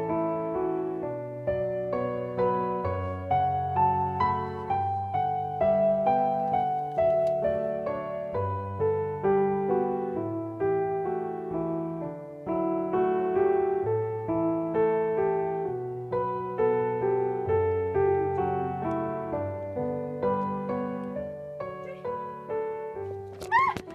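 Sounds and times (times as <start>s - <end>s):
slow gentle piano music: 0.0s - 23.9s.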